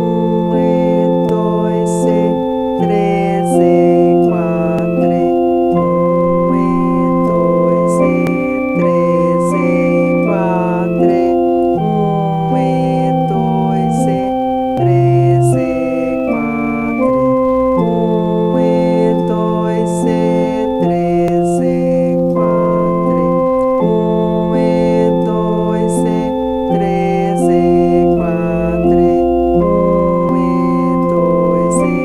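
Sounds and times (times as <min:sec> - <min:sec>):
electronic keyboard melody: 0:00.0 - 0:32.0.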